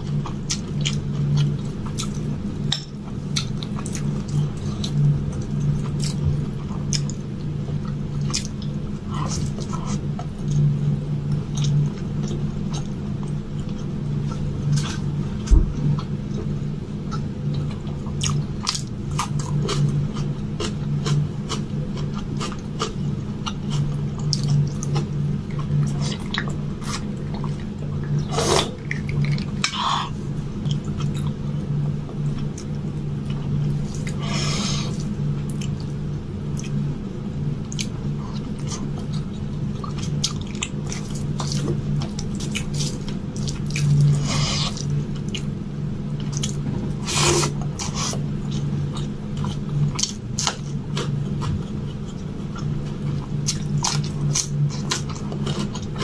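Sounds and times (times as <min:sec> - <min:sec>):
person chewing wet food: 0:00.0 - 0:36.9, 0:37.6 - 0:56.0
steady low hum: 0:00.0 - 0:56.0.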